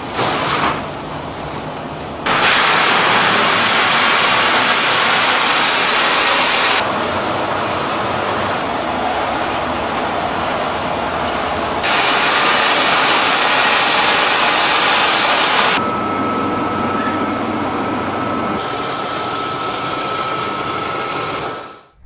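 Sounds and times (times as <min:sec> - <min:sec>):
processing machinery running: 0:00.0 - 0:22.0
high machine whine: 0:02.3 - 0:22.0.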